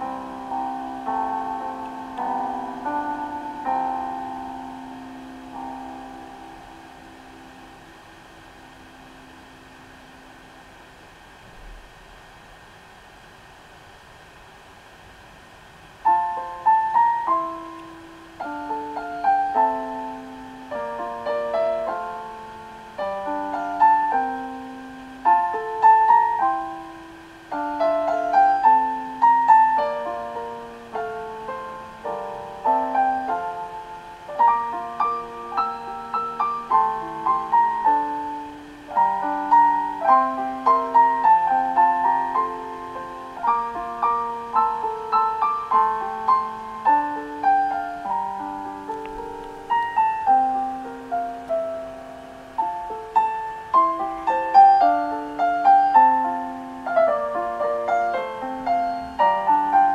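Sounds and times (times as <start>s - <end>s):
piano music: 0.0s - 10.6s, 16.0s - 59.9s.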